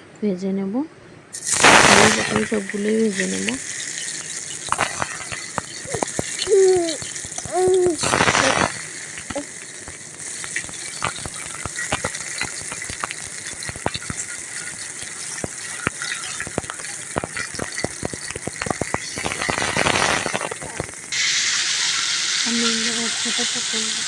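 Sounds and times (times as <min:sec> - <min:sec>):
food sizzling in hot oil: 0:01.3 - 0:24.0
oil crackling and spitting: 0:01.4 - 0:23.9.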